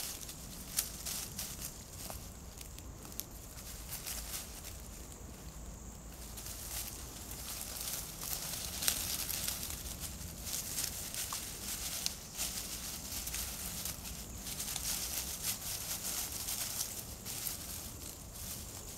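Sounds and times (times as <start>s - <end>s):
dry leaves rustling and crackling: 0.0s - 18.9s.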